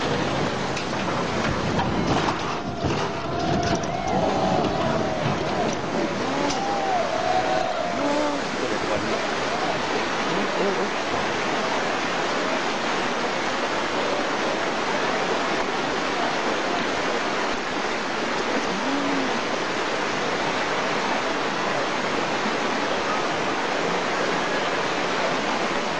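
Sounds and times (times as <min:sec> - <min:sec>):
floodwater rushing: 0:00.0 - 0:25.9.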